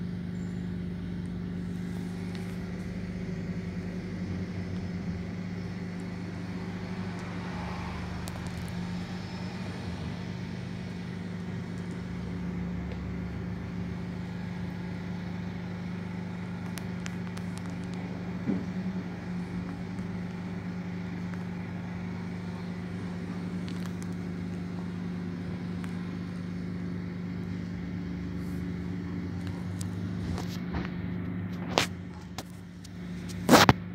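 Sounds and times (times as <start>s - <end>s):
bus drive hum: 0.0s - 33.9s
rolling and road noise: 0.0s - 33.9s.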